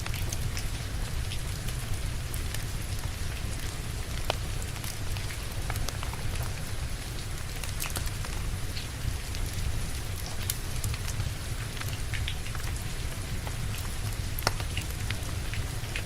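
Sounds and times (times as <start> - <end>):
rain falling: 0.0 - 16.0
wood fire crackling: 1.4 - 16.0.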